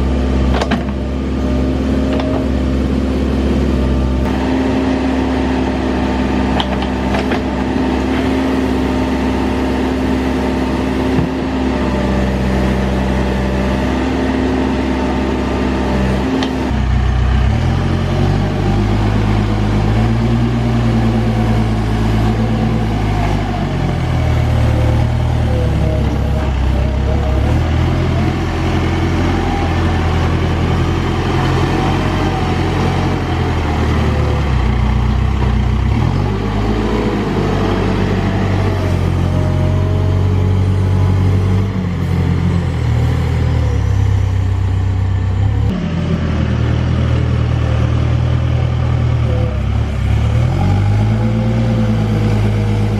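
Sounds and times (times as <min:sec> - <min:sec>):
diesel engine running loudly: 0:00.0 - 0:52.9.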